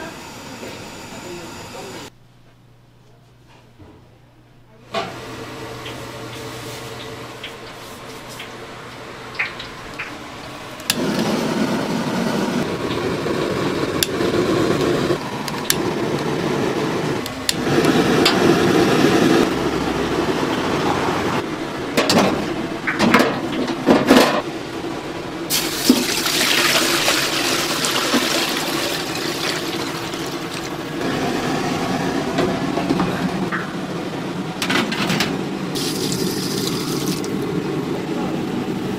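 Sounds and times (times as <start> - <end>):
gas burners rushing: 5.0 - 38.9.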